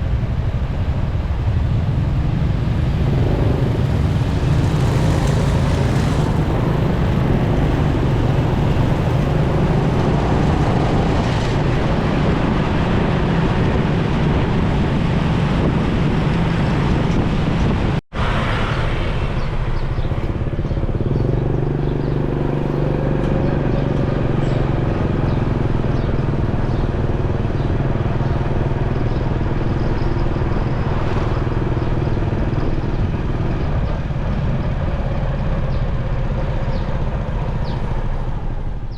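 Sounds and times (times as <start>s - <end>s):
motorcycle engine running: 0.0s - 18.0s, 18.6s - 38.9s
wind rushing over microphone: 0.0s - 38.9s.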